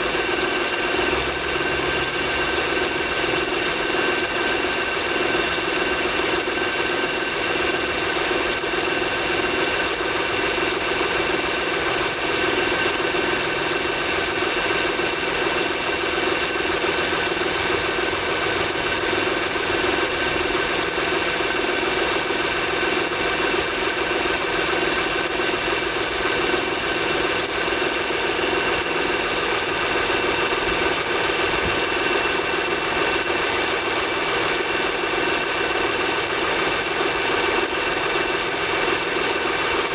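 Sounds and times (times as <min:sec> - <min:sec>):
car engine running: 0:00.0 - 0:39.9
fast ticking engine knock: 0:00.0 - 0:39.9.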